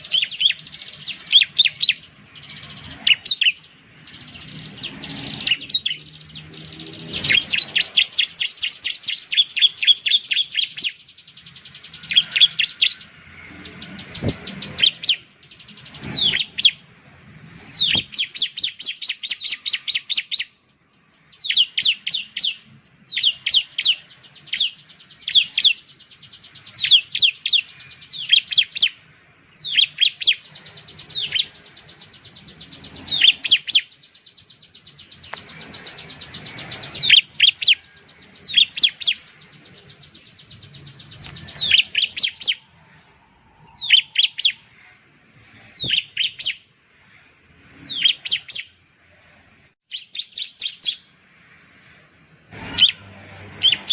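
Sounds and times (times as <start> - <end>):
bird singing whistled notes: 0.0 - 16.9, 17.6 - 20.6, 21.2 - 44.9, 45.6 - 46.7, 47.6 - 48.8, 49.8 - 51.1, 52.6 - 53.9
fast bird trill: 0.0 - 16.9, 17.6 - 20.6, 21.3 - 42.9, 43.6 - 44.9, 45.5 - 46.7, 47.7 - 48.8, 49.8 - 51.1, 52.5 - 53.9.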